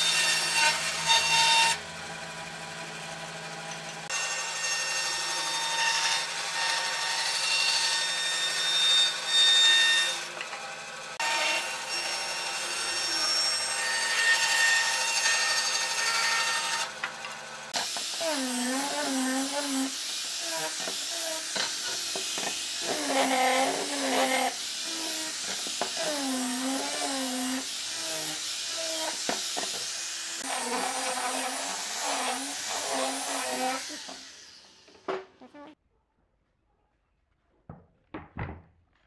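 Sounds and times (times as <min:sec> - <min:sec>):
angle grinder sanding wood: 0:00.0 - 0:35.0.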